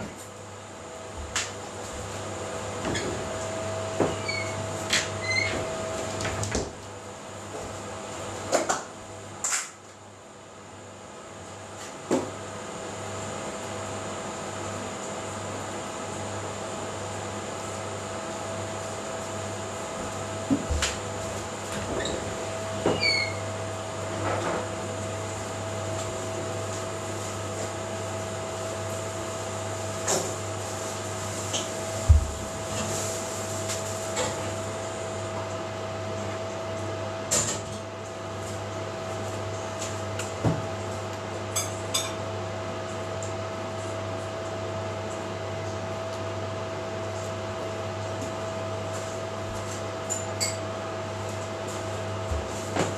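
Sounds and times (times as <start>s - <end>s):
steady machine hum: 0.0s - 52.9s.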